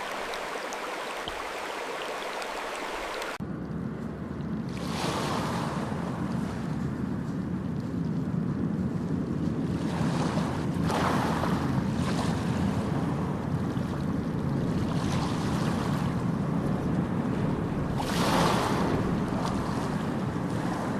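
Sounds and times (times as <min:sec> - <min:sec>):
water rushing with deep rumble: 0:00.0 - 0:20.9.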